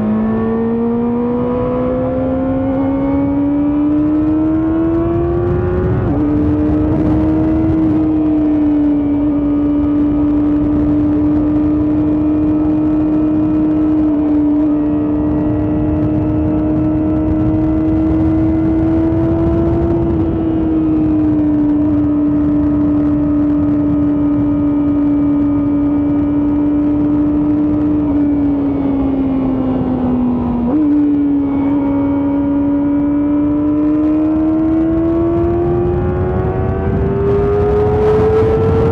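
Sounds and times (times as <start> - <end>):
motorcycle engine howling at high revs: 0.0 - 38.9
wind rush: 0.0 - 38.9.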